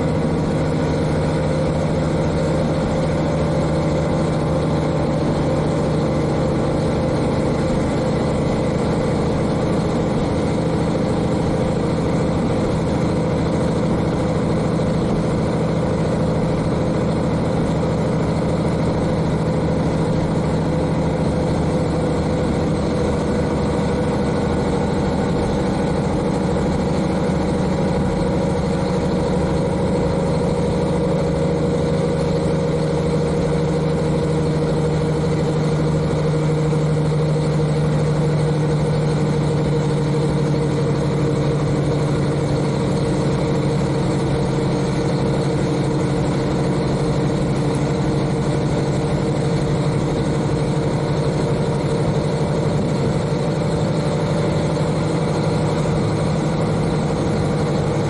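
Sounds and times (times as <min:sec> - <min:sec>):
railcar diesel engine running: 0:00.0 - 0:58.0
train running noise: 0:00.0 - 0:58.0.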